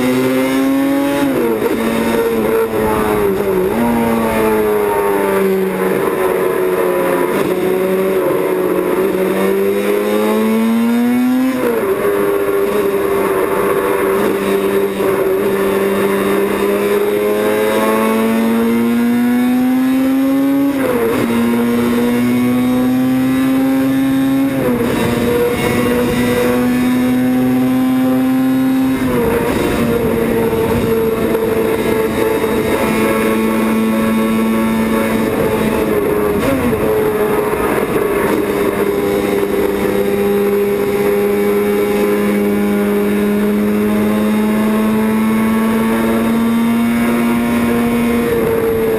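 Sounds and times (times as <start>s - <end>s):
motorcycle engine shifting gears: 0.0s - 48.9s.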